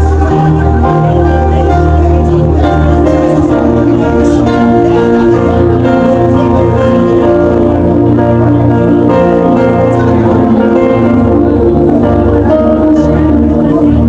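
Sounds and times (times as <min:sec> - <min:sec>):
instrumental music with sustained chords: 0:00.0 - 0:14.0.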